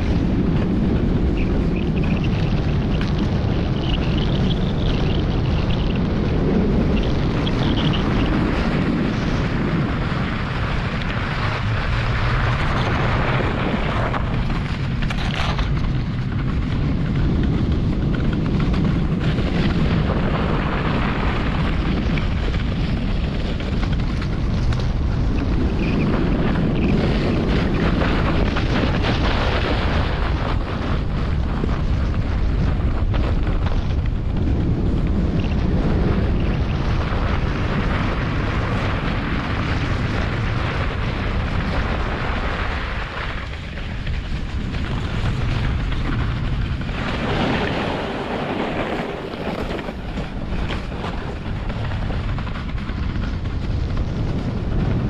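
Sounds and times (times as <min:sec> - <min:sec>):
sled runners rumbling on snow: 0:00.0 - 0:55.0
wind on microphone: 0:00.0 - 0:55.0.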